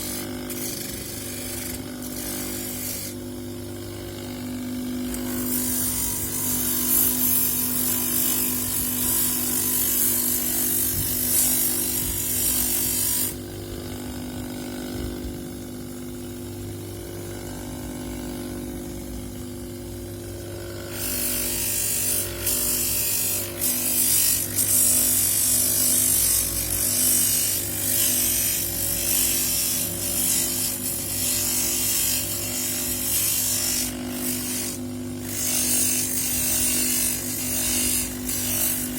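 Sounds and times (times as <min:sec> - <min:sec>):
power tool humming: 0:00.0 - 0:38.9.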